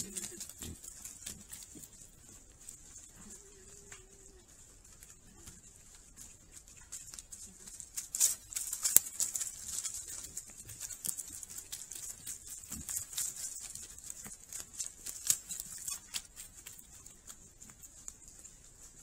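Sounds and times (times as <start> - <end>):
animals rustling dry leaves: 0.0 - 19.0.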